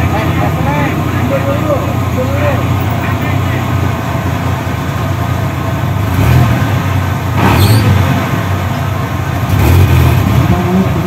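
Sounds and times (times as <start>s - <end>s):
buggy engine idling: 0.0s - 11.0s.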